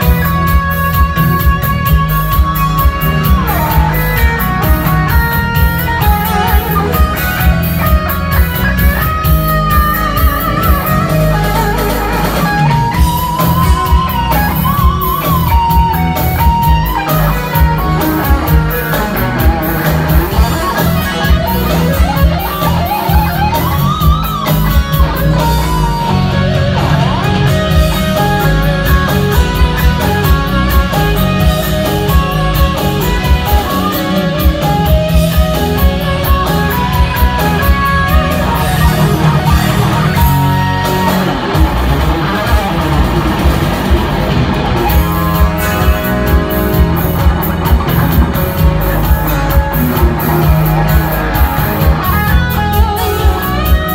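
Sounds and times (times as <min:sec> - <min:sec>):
drums: 0:00.0 - 0:53.9
electric guitar lead melody: 0:00.0 - 0:53.9.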